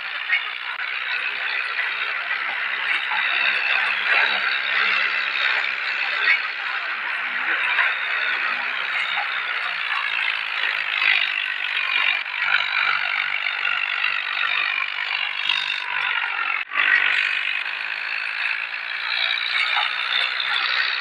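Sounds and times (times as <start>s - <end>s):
tractor rotavator rattling: 0.0s - 21.0s.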